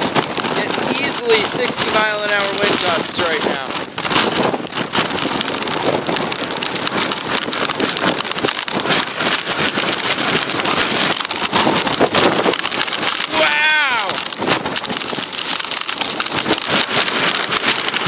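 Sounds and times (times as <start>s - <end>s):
blizzard wind gusting: 0.0s - 18.0s
snow ticking against microphone: 0.0s - 18.0s.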